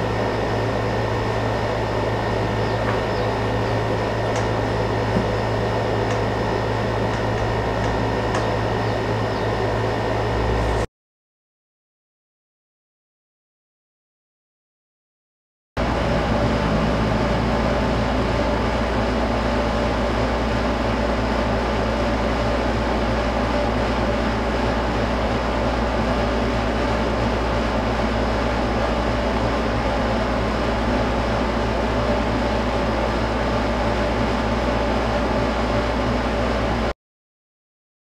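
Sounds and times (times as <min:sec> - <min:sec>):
machine hum: 0:00.0 - 0:10.9, 0:15.8 - 0:37.0.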